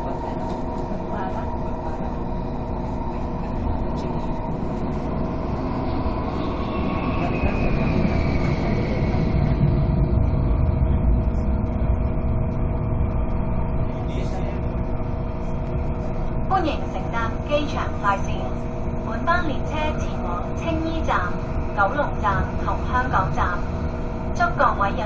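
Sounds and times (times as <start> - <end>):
train low rumble: 0.0 - 25.0
train whine: 0.0 - 25.0
higher whine falling in pitch: 1.1 - 25.0.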